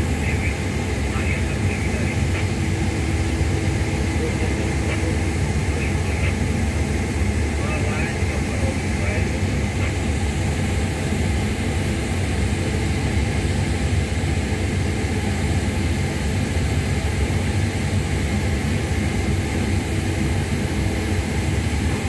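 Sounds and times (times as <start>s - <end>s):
machinery droning: 0.0s - 22.0s.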